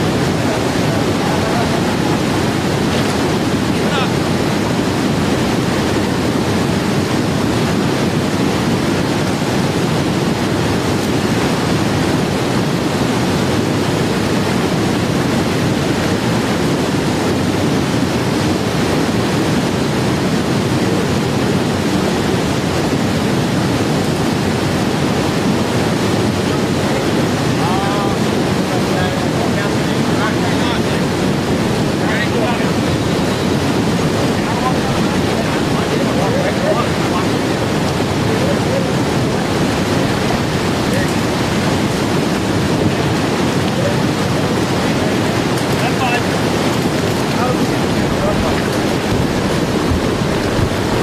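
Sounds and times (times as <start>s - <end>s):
whitewater rushing over a weir: 0.0s - 51.0s.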